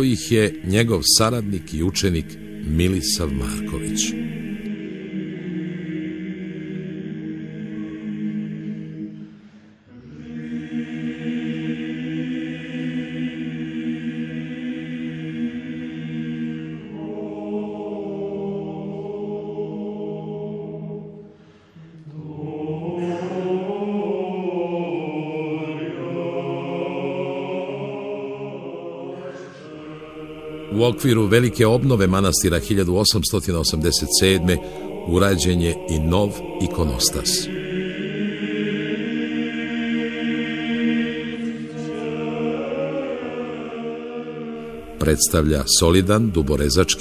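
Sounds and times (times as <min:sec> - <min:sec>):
choir chanting long notes: 0:00.0 - 0:47.0.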